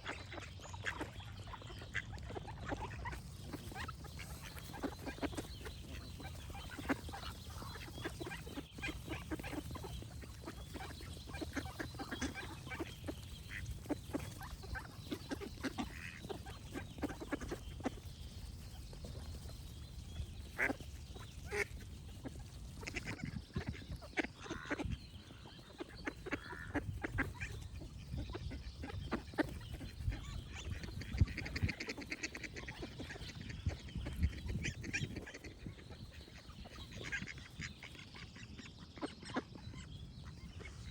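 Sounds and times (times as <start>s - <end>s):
birdsong: 0.0s - 40.9s
ducks quacking: 0.0s - 40.9s.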